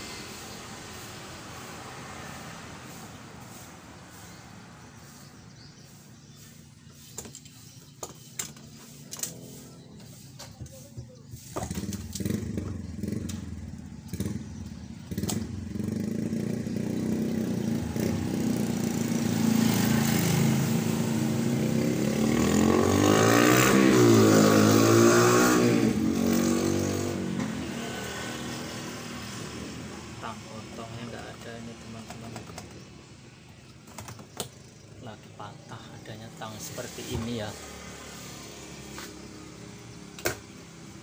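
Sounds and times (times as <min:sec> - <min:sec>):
vehicle engine passing by: 0:00.0 - 0:07.2, 0:08.8 - 0:32.9, 0:34.7 - 0:41.0.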